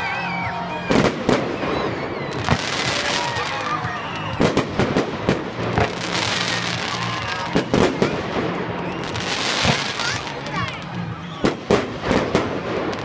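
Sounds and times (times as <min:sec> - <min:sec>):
fireworks bursting with sharp bangs: 0:00.8 - 0:13.0.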